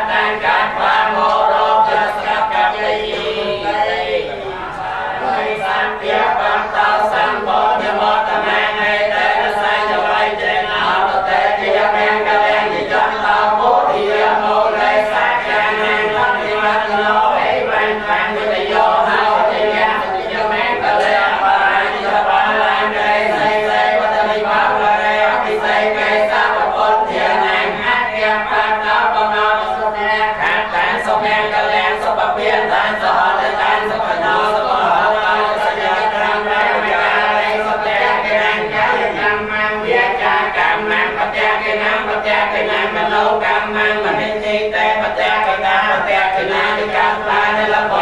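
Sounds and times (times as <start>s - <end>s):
many voices chanting: 0.0s - 48.0s.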